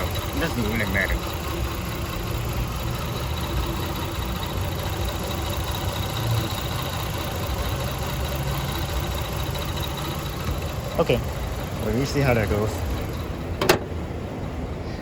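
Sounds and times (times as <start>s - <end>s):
car engine idling unevenly: 0.0s - 15.0s.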